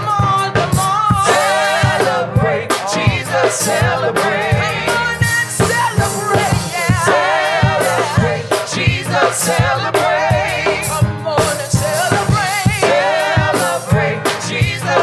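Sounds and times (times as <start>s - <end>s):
drum beats: 0.0s - 15.0s
gospel band playing: 0.0s - 15.0s
vocalists singing with vibrato: 0.0s - 15.0s.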